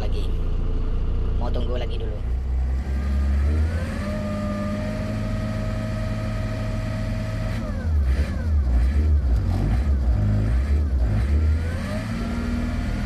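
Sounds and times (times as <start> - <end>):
diesel engine revving with whine: 0.0 - 13.0.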